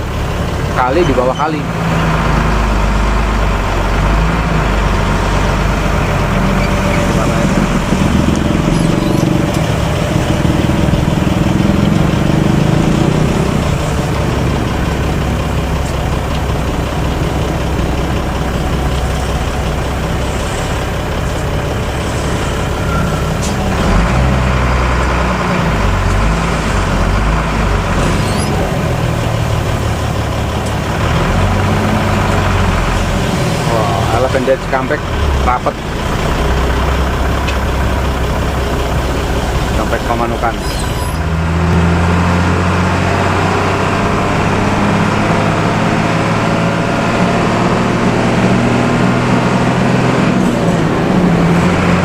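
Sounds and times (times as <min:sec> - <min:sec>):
bus engine running: 0:00.0 - 0:52.0
road noise: 0:00.0 - 0:52.0.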